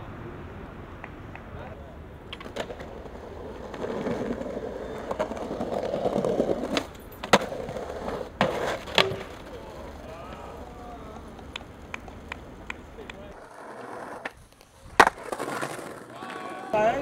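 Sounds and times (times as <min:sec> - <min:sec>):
skateboard wheels rolling on pavement: 0:00.5 - 0:17.0
skateboard clacking on ground: 0:02.2 - 0:17.0.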